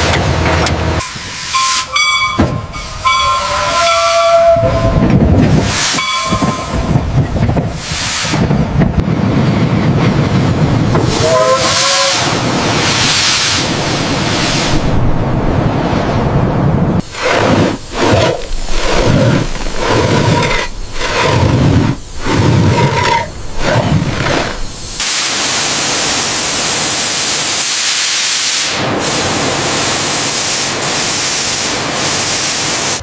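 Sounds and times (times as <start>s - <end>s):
steam hissing: 1.0s - 2.0s, 5.4s - 15.0s, 17.0s - 33.0s.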